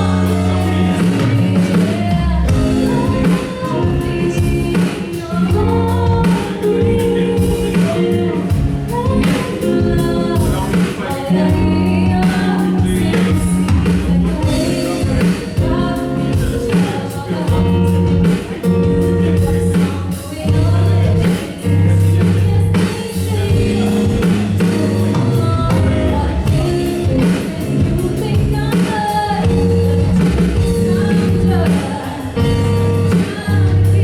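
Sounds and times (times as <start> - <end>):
live band playing: 0.0 - 34.0
person singing: 0.0 - 34.0.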